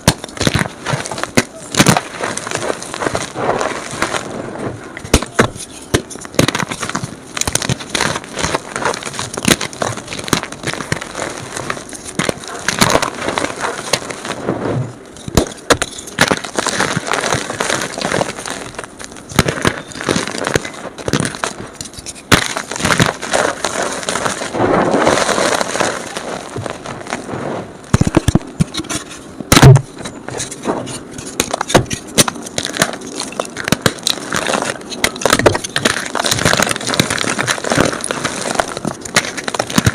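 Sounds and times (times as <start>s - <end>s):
chalk crunching and crackling: 0.0s - 4.4s, 5.0s - 39.9s.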